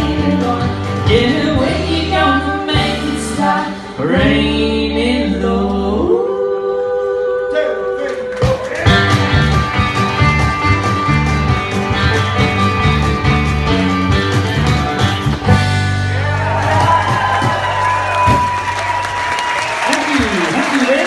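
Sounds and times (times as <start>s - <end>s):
country band playing: 0.0s - 21.0s.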